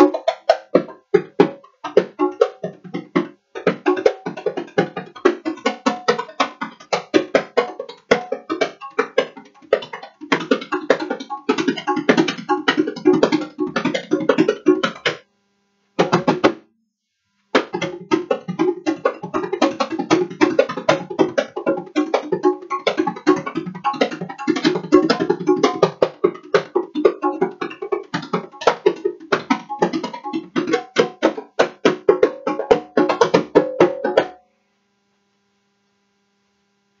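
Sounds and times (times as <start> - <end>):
hand drums playing fast rhythm: 0.0 - 15.1, 17.6 - 34.4.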